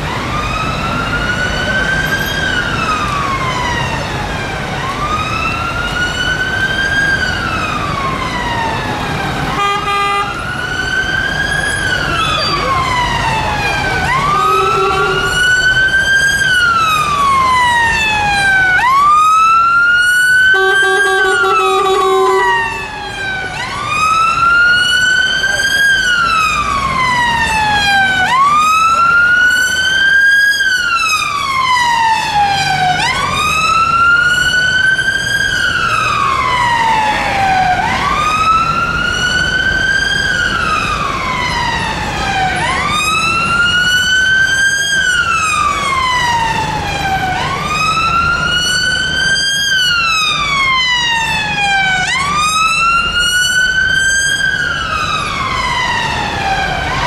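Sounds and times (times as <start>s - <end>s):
ambulance wail siren: 0.0s - 57.0s
low traffic noise: 0.0s - 57.0s.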